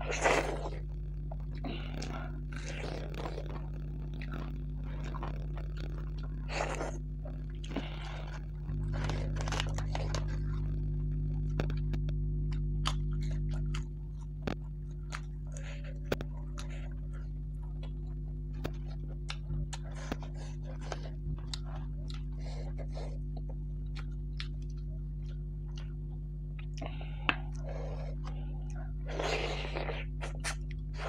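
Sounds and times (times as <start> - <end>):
crunchy food being chewed: 0.0 - 31.0
steady low hum: 0.0 - 31.0.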